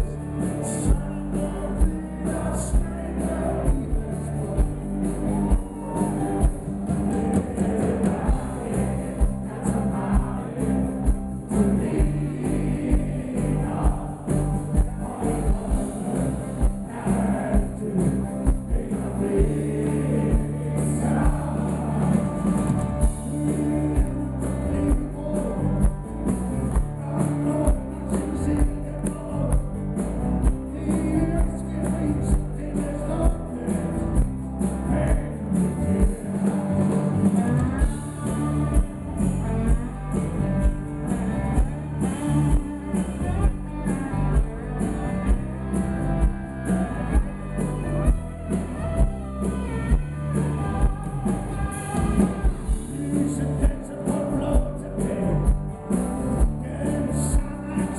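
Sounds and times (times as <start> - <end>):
man singing: 0.0 - 25.9, 26.7 - 45.4, 49.9 - 55.7, 56.3 - 57.9
rock band playing: 0.0 - 57.9.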